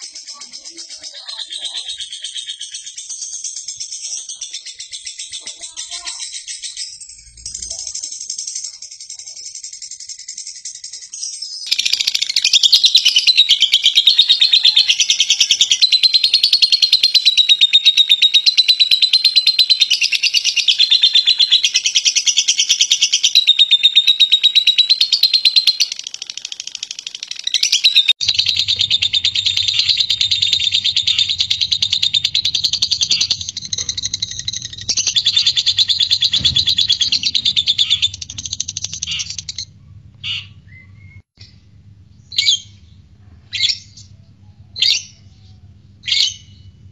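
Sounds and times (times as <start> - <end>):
lovebirds chattering song: 0.0 - 41.6.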